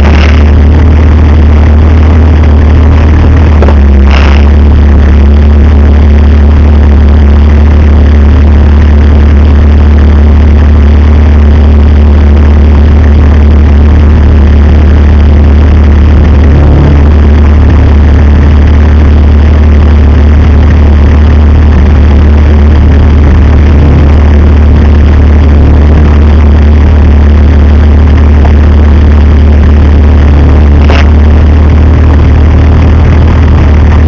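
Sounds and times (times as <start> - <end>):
vehicle engine running at low revs: 0.0 - 34.0.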